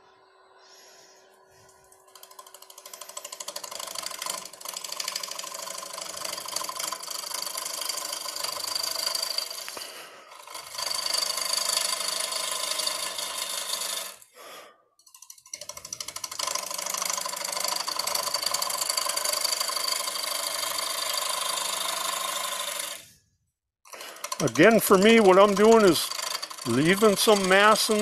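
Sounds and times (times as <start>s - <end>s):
gouge cutting wood on lathe: 2.1s - 14.3s, 15.2s - 23.2s, 23.9s - 28.0s.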